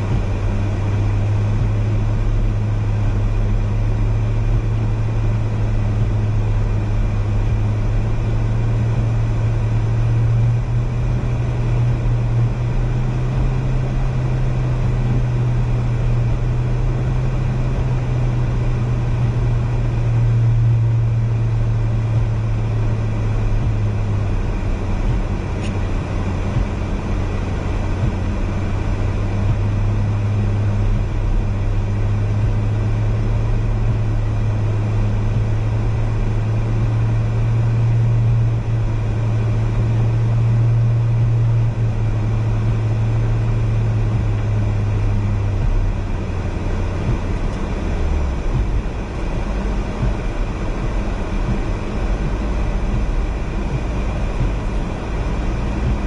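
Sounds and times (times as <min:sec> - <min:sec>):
car engine and road hum: 0:00.0 - 0:56.0.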